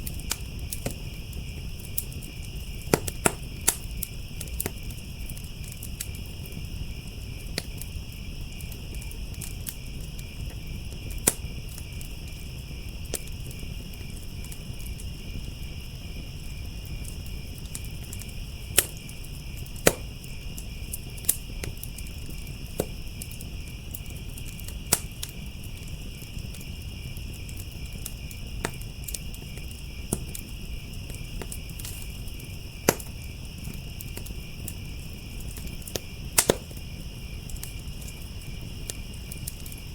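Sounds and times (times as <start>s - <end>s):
crickets chirring: 0.0s - 39.9s
wood fire crackling and popping: 0.0s - 39.9s.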